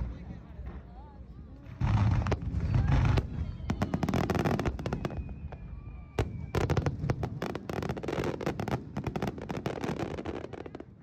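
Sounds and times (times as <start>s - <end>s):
fireworks crackling pops: 1.6s - 11.0s.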